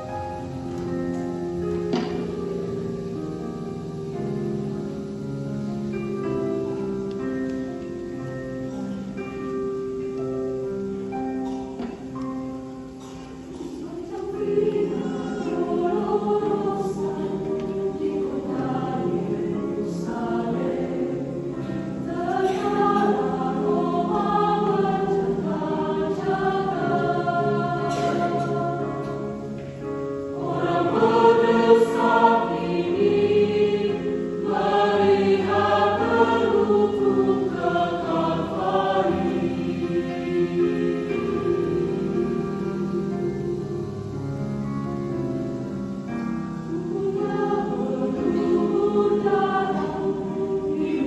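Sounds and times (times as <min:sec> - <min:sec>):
church choir singing a hymn: 0:00.0 - 0:51.0.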